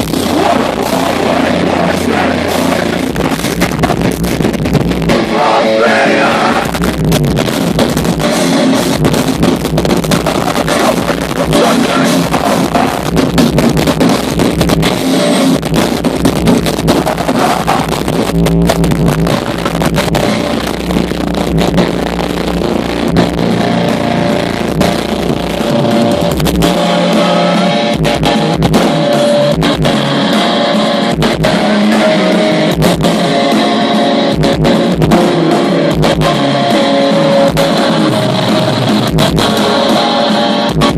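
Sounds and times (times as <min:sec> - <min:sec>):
melodic guitar line: 0:00.0 - 0:40.9
metal band playing loud: 0:00.0 - 0:40.9.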